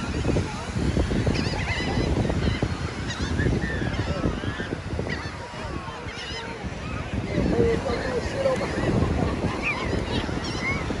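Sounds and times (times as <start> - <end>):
flock of birds squawking: 0.0 - 11.0
wind on microphone: 0.0 - 11.0.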